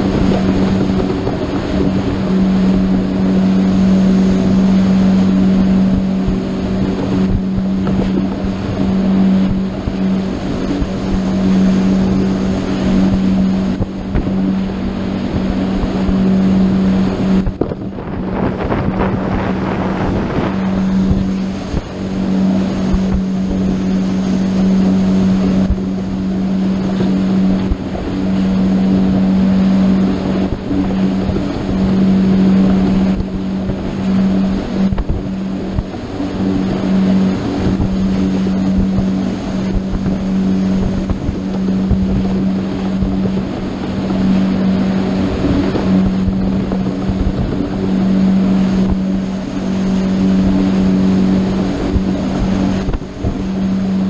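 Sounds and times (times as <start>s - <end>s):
motorboat engine drone: 0.0s - 54.0s
water splash: 0.0s - 54.0s
wind and water rushing: 0.0s - 54.0s.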